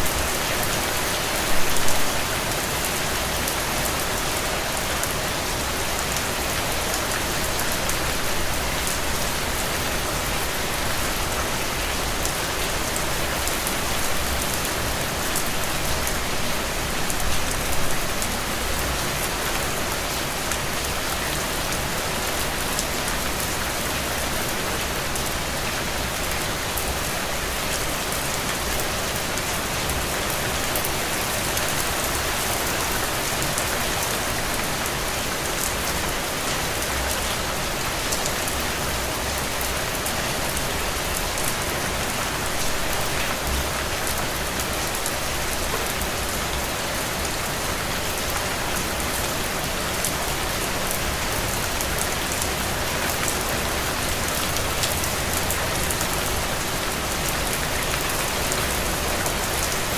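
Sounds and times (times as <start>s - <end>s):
heavy rain on ground and puddles: 0.0s - 59.9s.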